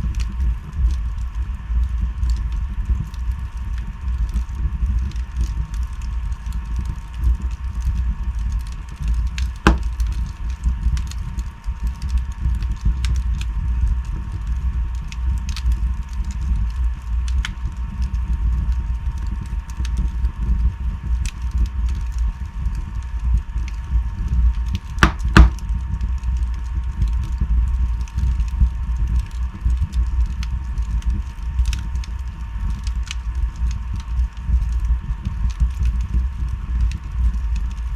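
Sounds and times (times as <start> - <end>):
fire crackling and popping: 0.0 - 37.9
low rumble of flames: 0.0 - 37.9.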